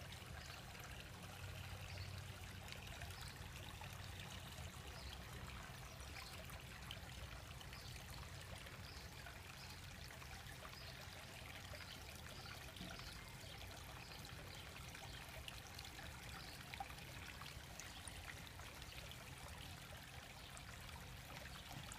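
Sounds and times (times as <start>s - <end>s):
water trickling in a pond: 0.0s - 21.9s.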